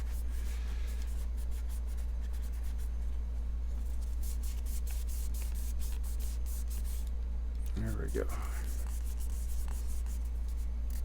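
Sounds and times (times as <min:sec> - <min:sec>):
scratchy rubbing strokes: 0:00.0 - 0:03.1, 0:03.8 - 0:07.1, 0:08.1 - 0:11.0
steady low hum: 0:00.0 - 0:11.0.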